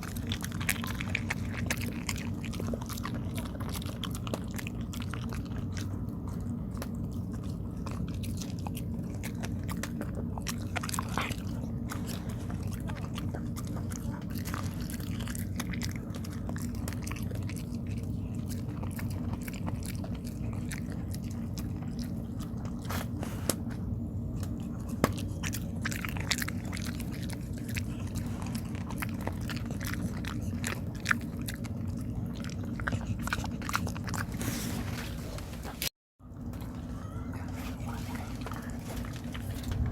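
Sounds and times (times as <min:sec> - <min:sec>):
dog chewing: 0:00.0 - 0:39.9
low hum: 0:00.0 - 0:39.9.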